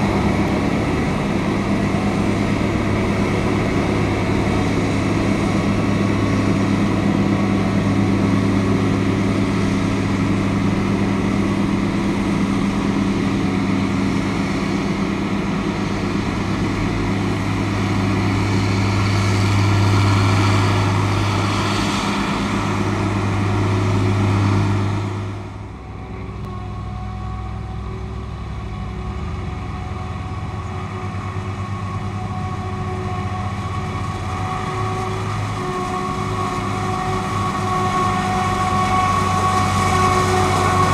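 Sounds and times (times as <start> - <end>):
broad rushing noise: 0.0 - 26.4, 27.7 - 40.9
diesel engine running under load: 0.0 - 40.9.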